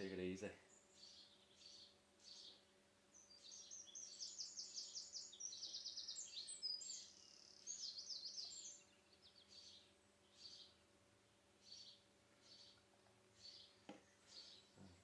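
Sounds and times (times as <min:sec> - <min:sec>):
songbird singing trills: 0:00.0 - 0:15.0.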